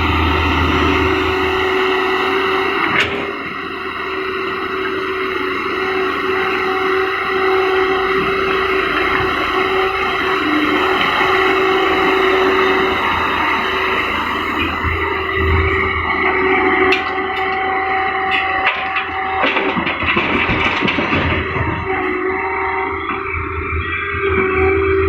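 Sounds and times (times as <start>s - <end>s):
excavator diesel engine running: 0.0s - 25.0s
hydraulic drone: 0.0s - 25.0s.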